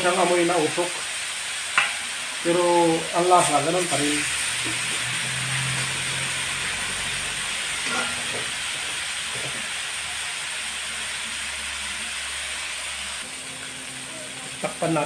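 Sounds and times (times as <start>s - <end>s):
pork sizzling in a wok: 0.0s - 15.0s.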